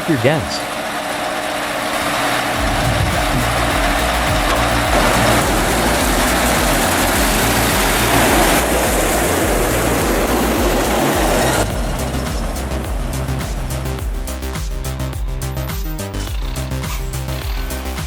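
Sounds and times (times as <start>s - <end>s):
heavy diesel machinery running: 0.0s - 15.2s.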